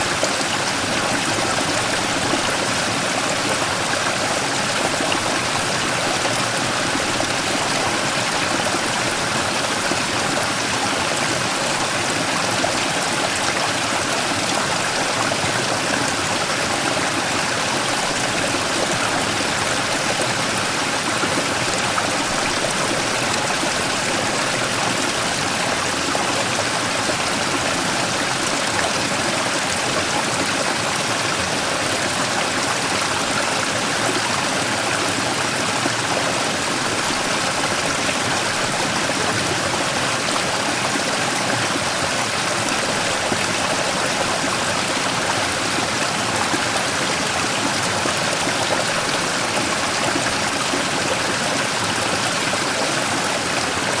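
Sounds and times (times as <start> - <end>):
stream rushing over rock: 0.0 - 54.0.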